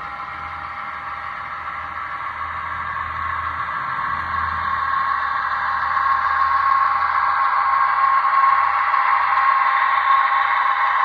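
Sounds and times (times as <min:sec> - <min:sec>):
model train hum and whine: 0:00.0 - 0:11.0.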